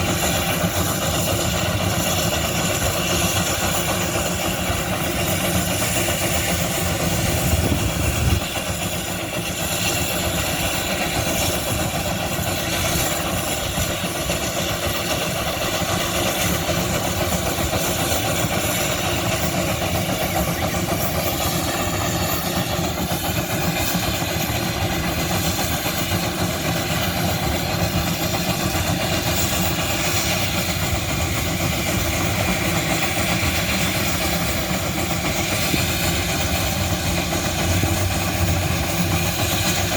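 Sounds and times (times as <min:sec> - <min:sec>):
old engine running: 0:00.0 - 0:39.9.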